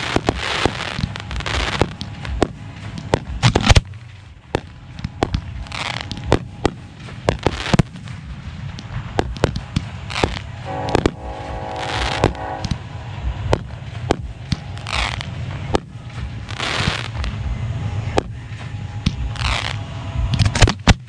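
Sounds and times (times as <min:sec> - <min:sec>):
firework hiss: 0:00.0 - 0:21.0
firework shell reports: 0:00.0 - 0:21.0
low rumble: 0:00.0 - 0:21.0.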